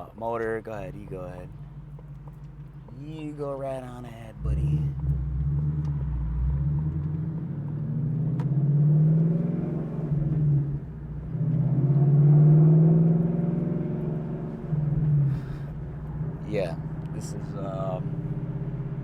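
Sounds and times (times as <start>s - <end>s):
car engine under throttle: 0.0s - 19.0s.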